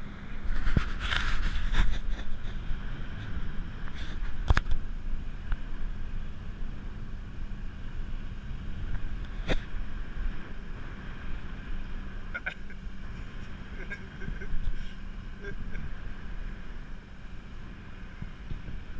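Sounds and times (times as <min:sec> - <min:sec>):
boat engine rumbling: 0:00.0 - 0:18.9.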